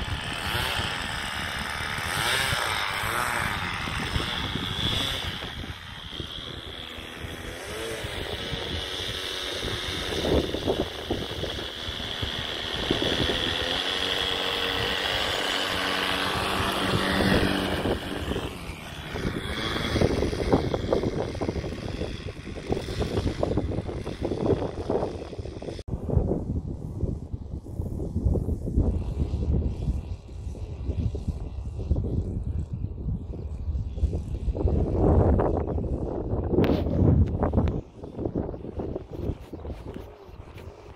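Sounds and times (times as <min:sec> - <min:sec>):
model airplane engine running: 0:00.0 - 0:25.9, 0:27.1 - 0:40.9
wind buffeting microphone: 0:00.0 - 0:40.9.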